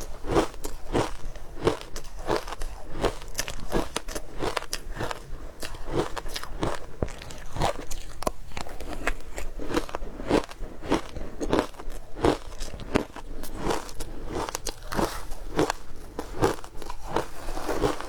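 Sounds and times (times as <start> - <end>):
ice crunched between teeth: 0.0 - 18.0.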